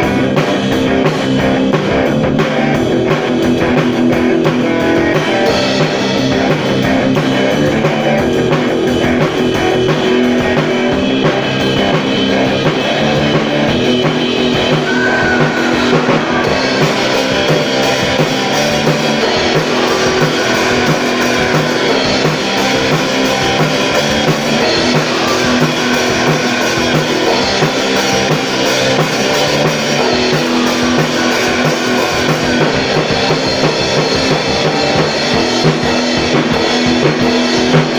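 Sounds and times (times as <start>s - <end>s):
drum kit beat: 0.0s - 37.9s
rock band guitars: 0.0s - 37.9s.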